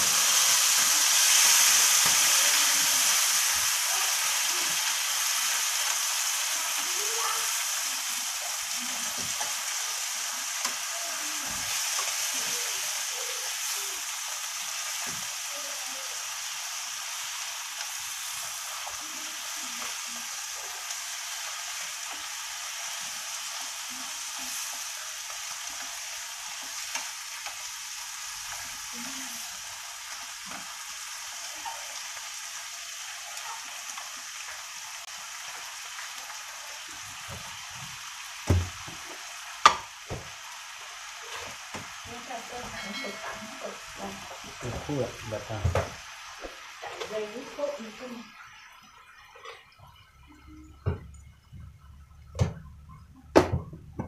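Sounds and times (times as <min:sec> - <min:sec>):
meat sizzling in frying pan: 0:00.0 - 0:52.6.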